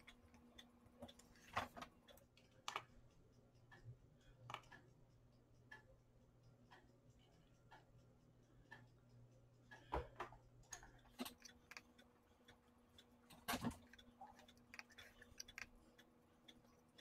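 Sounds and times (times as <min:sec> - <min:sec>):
faint mains hum: 0:00.0 - 0:17.0.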